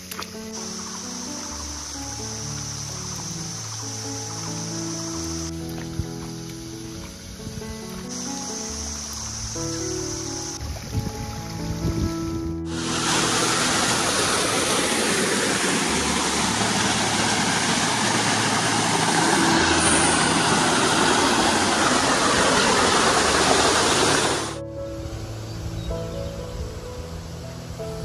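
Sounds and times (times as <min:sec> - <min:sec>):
waterfall rushing: 0:00.0 - 0:10.7, 0:12.7 - 0:24.7
soft background music: 0:00.0 - 0:28.0.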